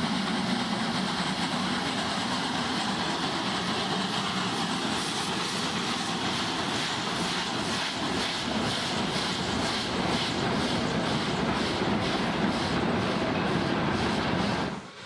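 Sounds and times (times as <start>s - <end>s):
steam locomotive exhaust beats: 0.0s - 15.0s
train wheels clattering on rails: 0.0s - 15.0s.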